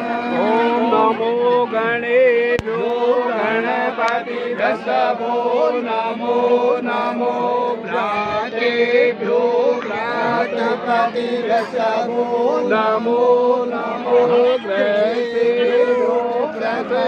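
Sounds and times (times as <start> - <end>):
voices chanting together: 0.0 - 17.0.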